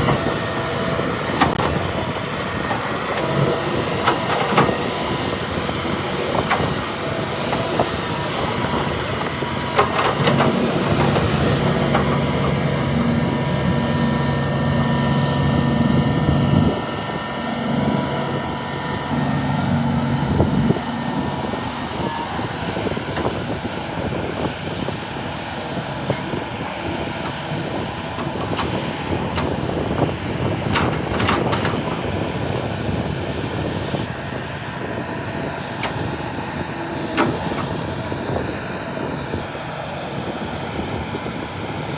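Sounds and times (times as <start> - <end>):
low engine drone: 0.0 - 41.6
heavy diesel machinery din: 0.0 - 41.9.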